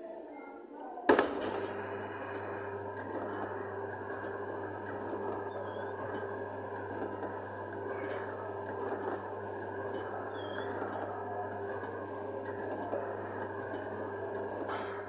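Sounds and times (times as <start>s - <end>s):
kiddie ride motor hum and rattle: 1.0s - 15.0s.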